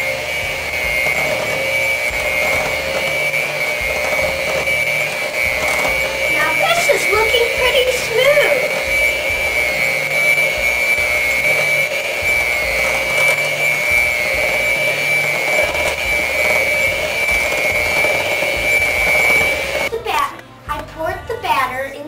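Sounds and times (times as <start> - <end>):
electric mixer whining: 0.0 - 20.9.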